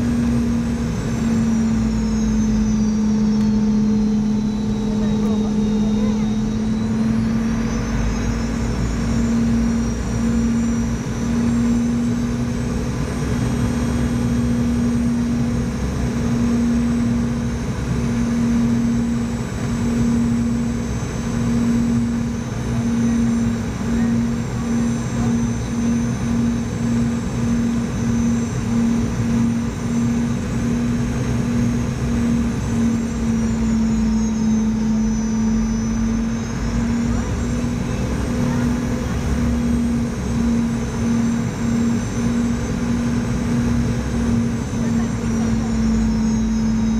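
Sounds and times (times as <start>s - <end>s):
high engine whine: 0.0s - 46.9s
jet engine cabin drone: 0.0s - 46.9s.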